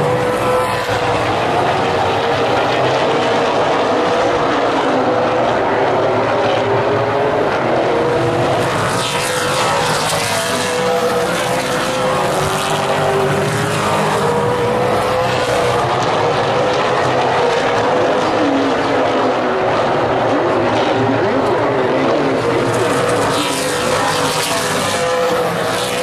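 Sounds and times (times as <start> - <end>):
race car engines roaring: 0.0 - 26.0
race car passing by: 0.0 - 26.0.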